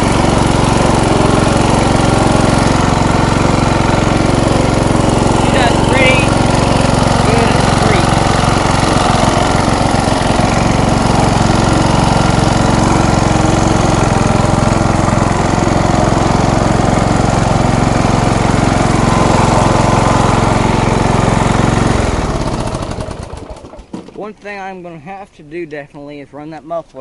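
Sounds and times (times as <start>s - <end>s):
riding lawn mower engine: 0.0s - 24.7s.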